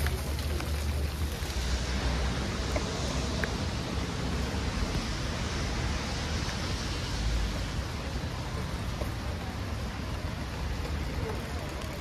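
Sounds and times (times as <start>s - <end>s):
rain on wet street: 0.0s - 12.0s.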